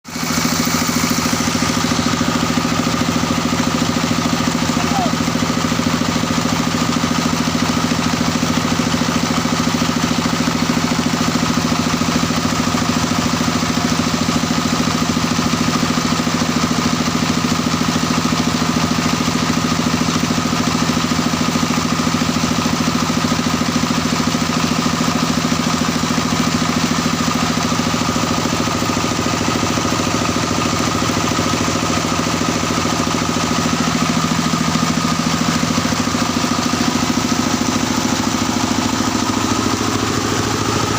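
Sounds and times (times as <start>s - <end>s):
drilling rig engine running: 0.1s - 40.9s.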